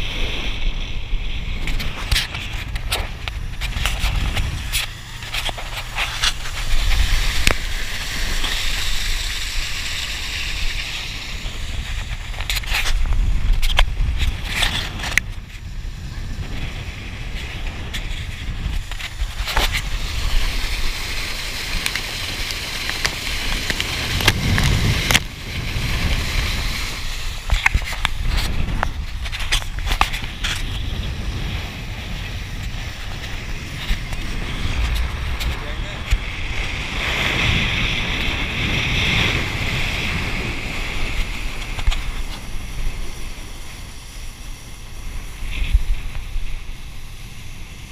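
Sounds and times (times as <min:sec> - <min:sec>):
boat engine rumble: 0:00.0 - 0:47.9
hull slapping waves: 0:00.0 - 0:47.9
wind on microphone: 0:00.0 - 0:47.9
water spray: 0:01.8 - 0:35.5, 0:36.4 - 0:47.9.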